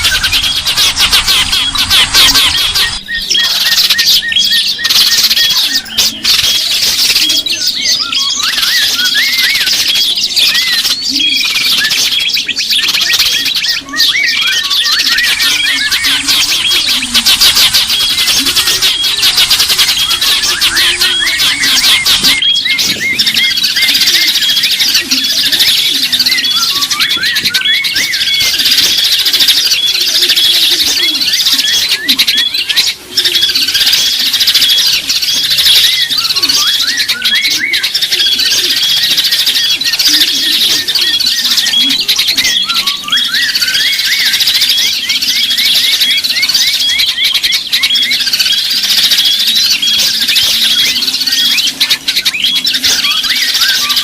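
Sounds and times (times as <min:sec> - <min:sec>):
songbirds chirping and twittering: 0:00.0 - 0:54.0.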